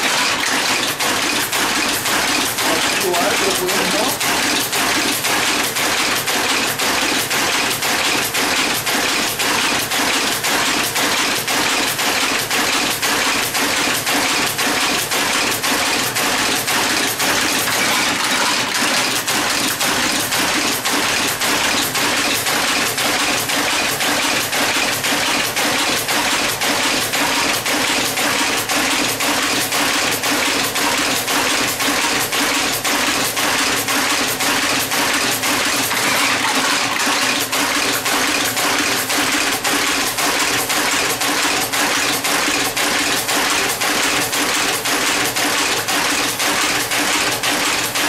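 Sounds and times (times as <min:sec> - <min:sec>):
type-casting machine clatter: 0:00.0 - 0:48.0.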